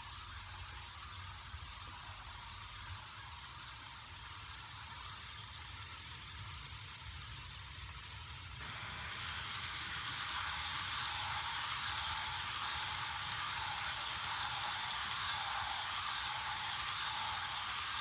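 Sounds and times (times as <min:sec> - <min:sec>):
model train steam hiss from speaker: 0:00.0 - 0:18.0.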